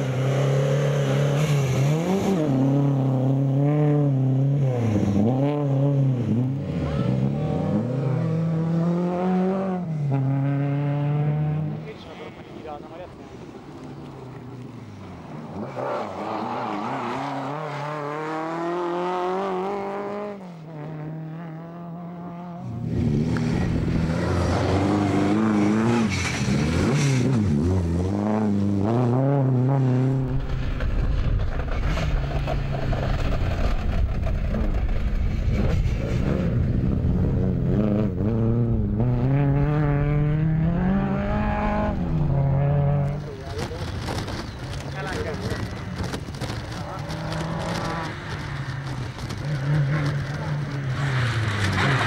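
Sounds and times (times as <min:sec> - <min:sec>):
rally car engines revving: 0:00.0 - 0:13.4, 0:14.1 - 0:52.0.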